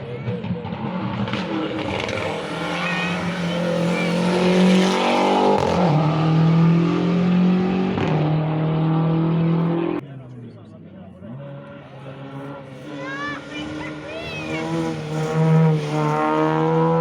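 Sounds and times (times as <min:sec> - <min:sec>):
rally car engine accelerating: 0:00.0 - 0:10.1, 0:10.8 - 0:17.0.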